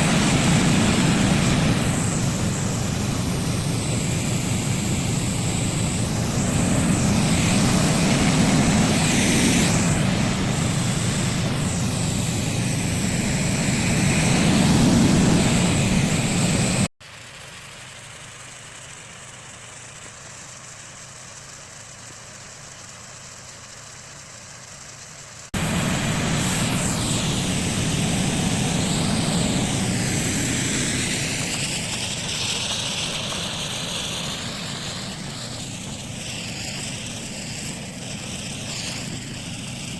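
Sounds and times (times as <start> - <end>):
snow machine fan drone: 0.0 - 39.9.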